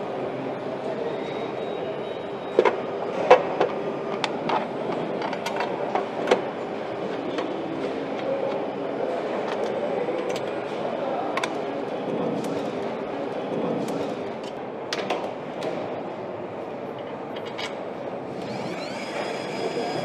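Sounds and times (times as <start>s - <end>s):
factory hum: 0.0s - 20.0s.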